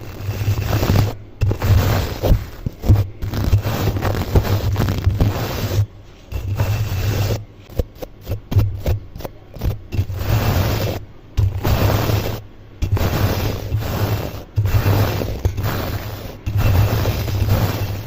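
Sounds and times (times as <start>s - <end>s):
scraping and brushing on microphone: 0.0s - 18.0s.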